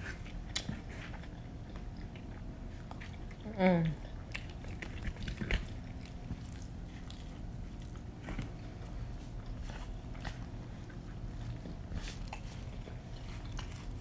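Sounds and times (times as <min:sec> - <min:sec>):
chewing and biting pizza: 0:00.0 - 0:14.0.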